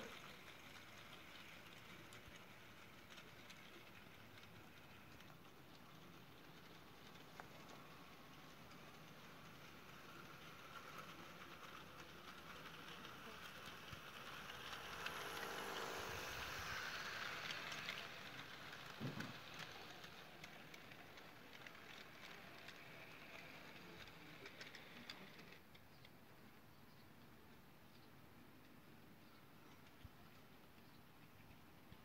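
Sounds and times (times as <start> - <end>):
model train motor hum: 0.0 - 26.1
wheels rattling and clicking on track: 0.0 - 32.0.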